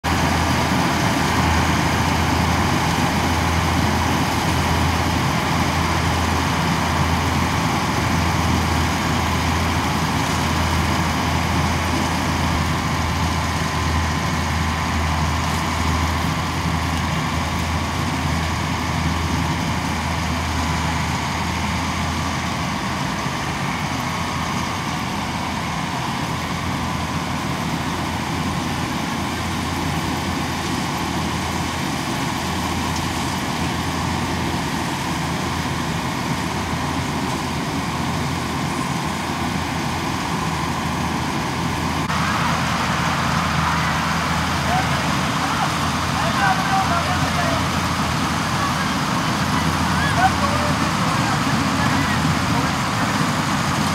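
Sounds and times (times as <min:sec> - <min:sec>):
combine harvester diesel engine drone: 0:00.0 - 0:53.9.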